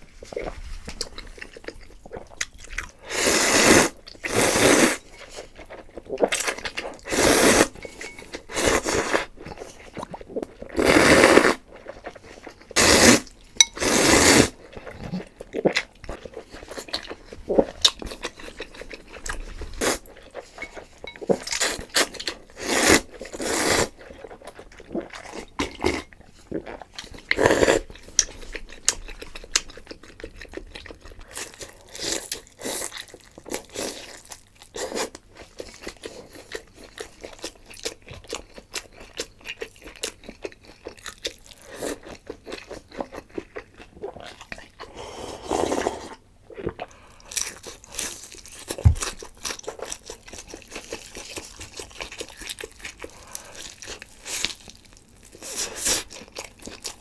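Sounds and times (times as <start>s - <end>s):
crunching and chewing: 0.2s - 3.1s, 3.9s - 13.8s, 14.5s - 57.0s.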